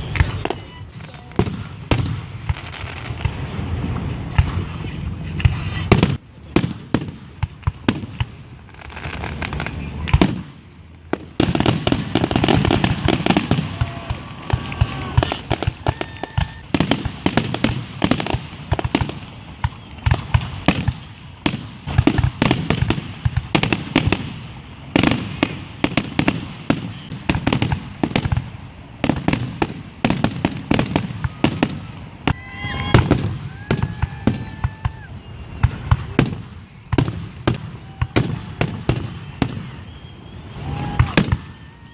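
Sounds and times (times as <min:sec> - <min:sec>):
fireworks bangs and crackles: 0:00.0 - 0:41.9
fireworks whistling: 0:00.0 - 0:41.9.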